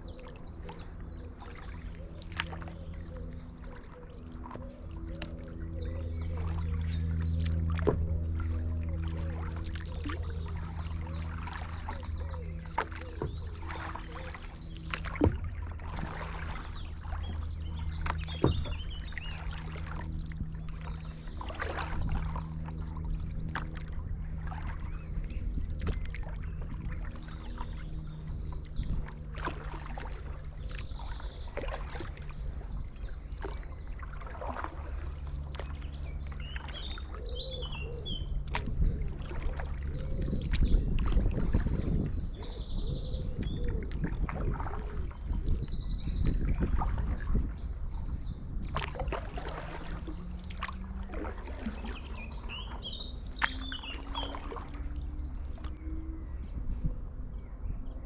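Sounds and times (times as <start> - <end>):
birds chirping: 0.0 - 58.0
paddle dipping through water: 0.0 - 58.0
steady low hum: 0.0 - 58.0.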